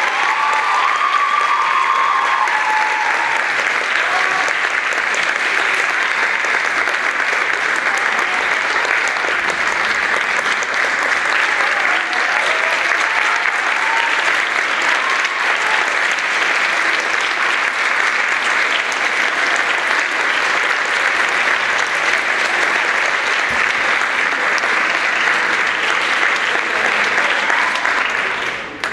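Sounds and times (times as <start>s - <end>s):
audience applauding: 0.0s - 28.9s.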